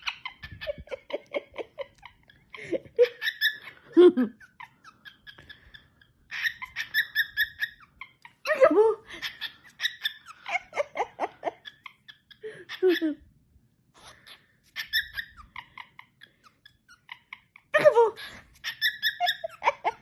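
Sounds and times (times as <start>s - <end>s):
cockatiel chirping: 0.0s - 13.2s, 14.0s - 20.0s
laughter-like bird sounds: 0.0s - 13.4s, 14.0s - 20.0s.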